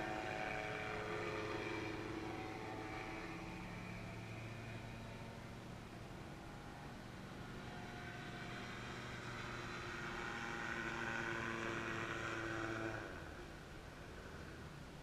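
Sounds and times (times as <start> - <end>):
distant ultralight engine hum: 0.0 - 15.0.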